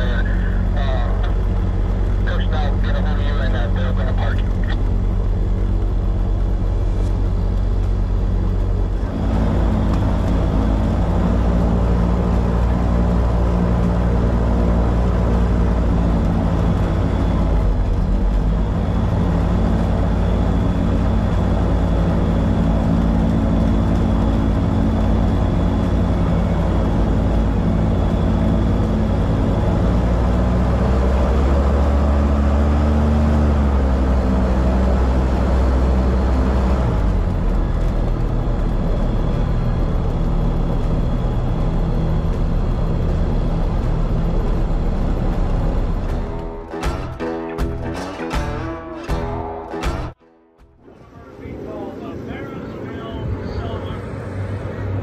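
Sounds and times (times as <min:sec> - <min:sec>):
propeller aircraft engine running: 0:00.0 - 0:55.0.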